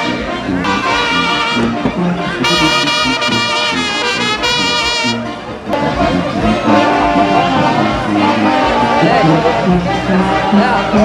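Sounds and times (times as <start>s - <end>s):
brass band music: 0.0s - 11.0s.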